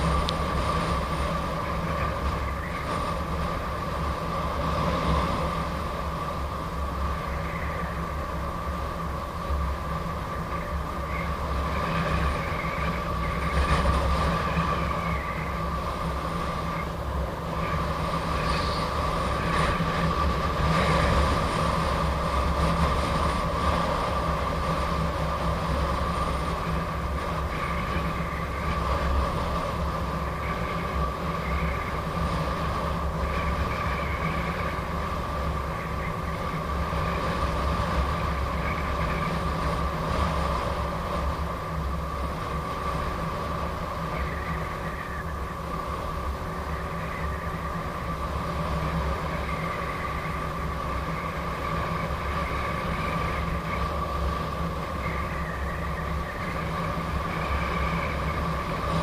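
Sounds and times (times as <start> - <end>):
tyre and wind rumble: 0.0 - 59.0.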